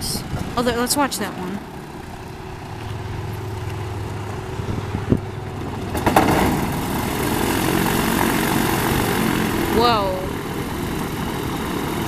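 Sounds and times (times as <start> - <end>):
propeller aircraft engine idling: 0.0 - 12.0.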